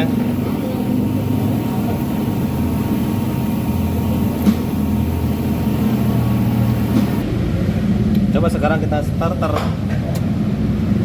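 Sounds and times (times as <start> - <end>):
engine idling: 0.0 - 9.5.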